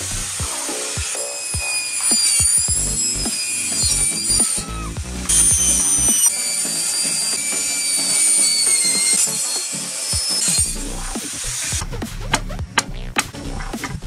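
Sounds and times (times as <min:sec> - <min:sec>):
background music with beat: 0:00.0 - 0:14.0
power saw cutting plywood: 0:00.0 - 0:14.0.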